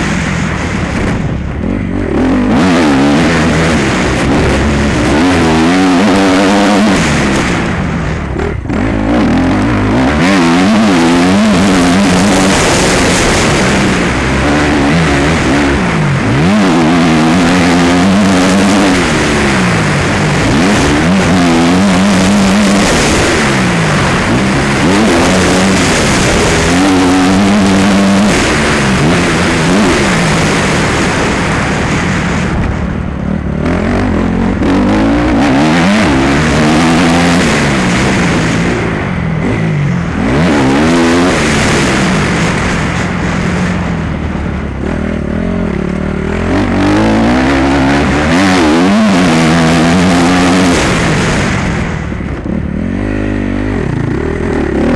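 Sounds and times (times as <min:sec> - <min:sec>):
motocross motorcycle engine revving: 0:00.0 - 0:54.9.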